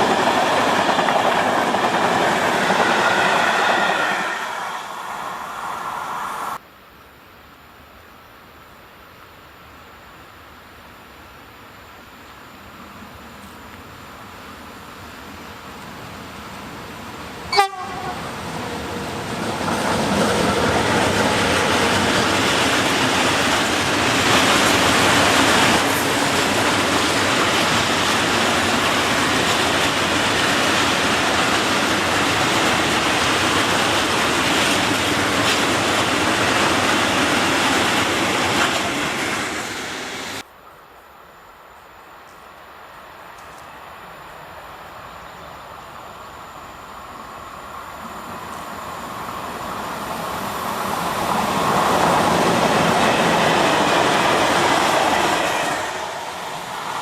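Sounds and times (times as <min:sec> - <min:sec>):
freight train passing: 0:00.0 - 0:06.6, 0:12.8 - 0:40.4, 0:42.3 - 0:57.0.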